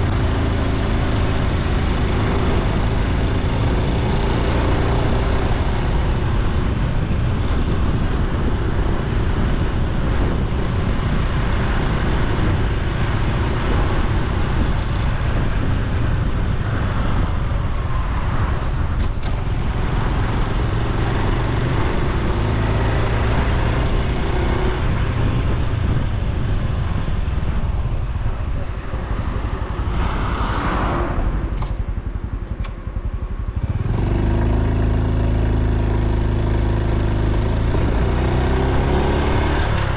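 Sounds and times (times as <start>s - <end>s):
motorcycle engine running: 0.0s - 30.0s, 31.2s - 39.9s.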